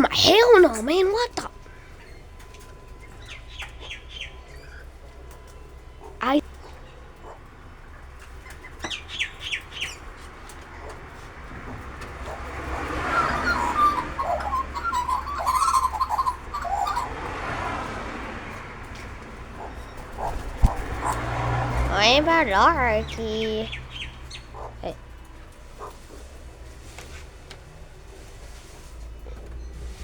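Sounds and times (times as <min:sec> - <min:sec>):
wild birds chirping: 0:00.0 - 0:11.1, 0:11.8 - 0:26.0.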